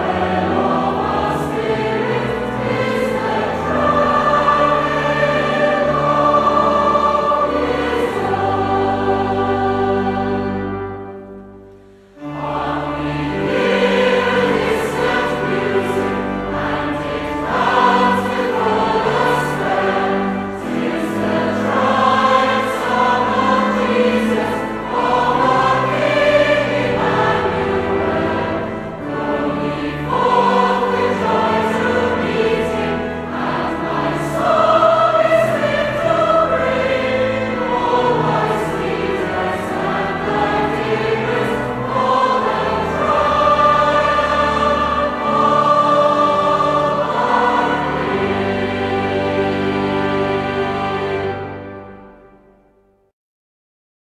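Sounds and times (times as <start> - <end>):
choir singing a hymn: 0.0 - 52.4.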